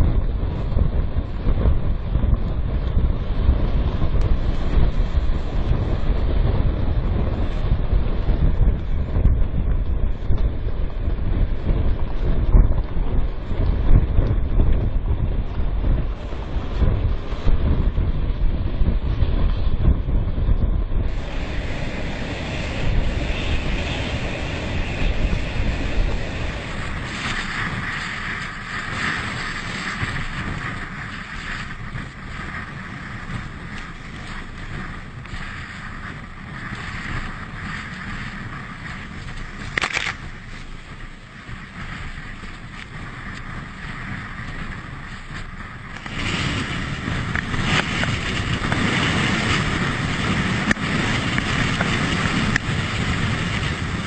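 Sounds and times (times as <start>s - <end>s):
rough sea waves breaking: 0.0s - 54.0s
wind blowing on microphone: 0.0s - 54.0s.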